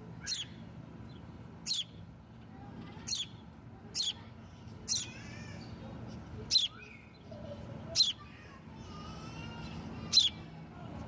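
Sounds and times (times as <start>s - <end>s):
baby birds begging chirps: 0.1s - 2.1s, 2.9s - 10.5s.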